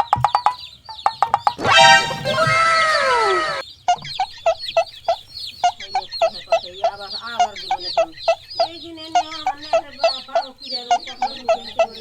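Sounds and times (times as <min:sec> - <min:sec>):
chickens clucking: 0:00.0 - 0:12.0
high falling chirps: 0:00.0 - 0:12.0.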